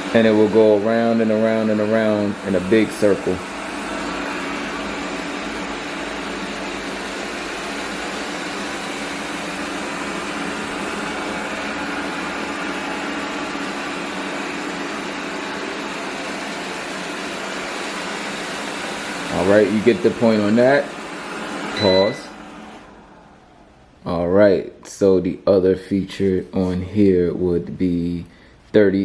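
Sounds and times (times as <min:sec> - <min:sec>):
robot vacuum whirring: 0:00.0 - 0:24.2.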